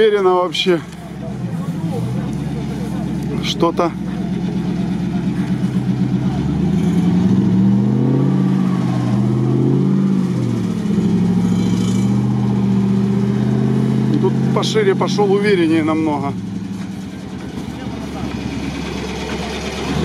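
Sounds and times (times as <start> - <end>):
truck engine revving off-road: 0.0 - 20.0.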